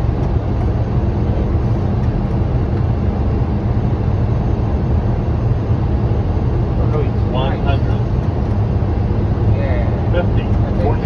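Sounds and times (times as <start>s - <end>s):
airflow and engine rumble: 0.0s - 11.0s.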